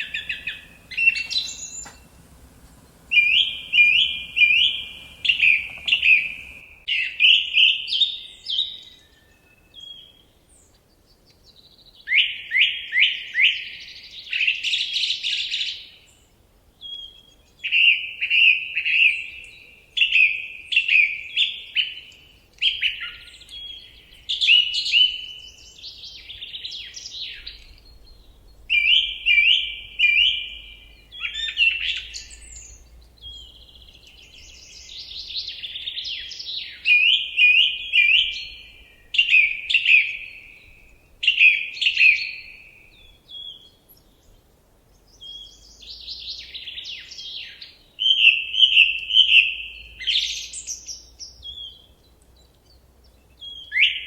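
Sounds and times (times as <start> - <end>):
songbirds chirping: 0.0 - 12.2, 13.7 - 54.0.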